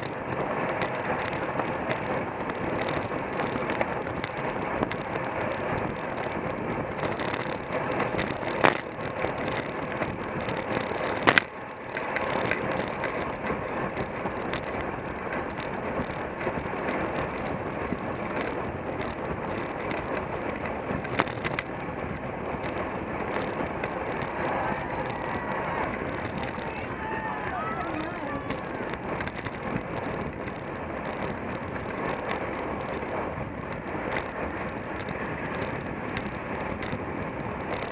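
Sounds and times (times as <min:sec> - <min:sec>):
bicycle tyres and drivetrain: 0:00.0 - 0:37.9
wind rushing over camera: 0:00.0 - 0:37.9.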